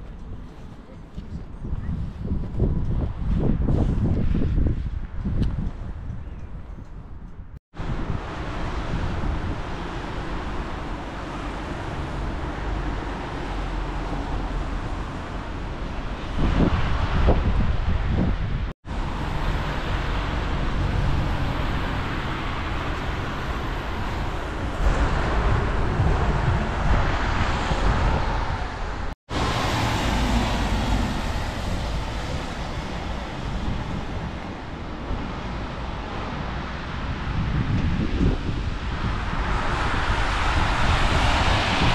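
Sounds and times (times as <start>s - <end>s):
vehicle rumble: 0.0s - 41.9s
wind on microphone: 0.0s - 41.9s.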